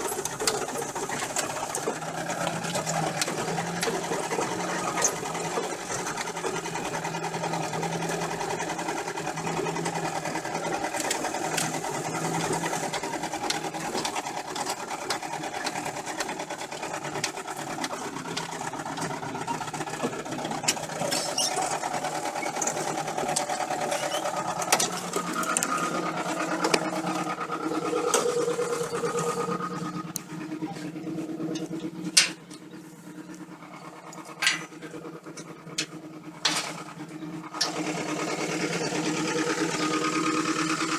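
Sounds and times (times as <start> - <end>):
engine running with knocking clatter: 0.0 - 40.9.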